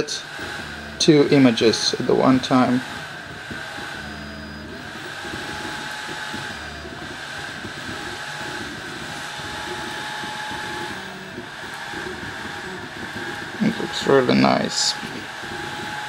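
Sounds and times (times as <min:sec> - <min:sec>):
short low hums: 0:00.0 - 0:16.0
steady hum: 0:00.0 - 0:16.0
stepper motors whining: 0:00.0 - 0:16.0.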